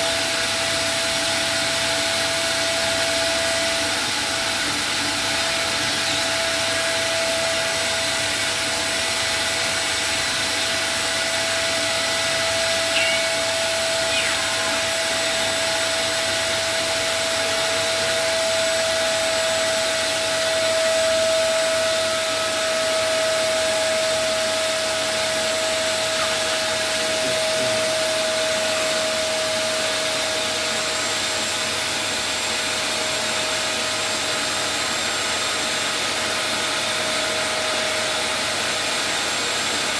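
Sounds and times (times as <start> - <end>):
shop vacuum whining: 0.0 - 39.9.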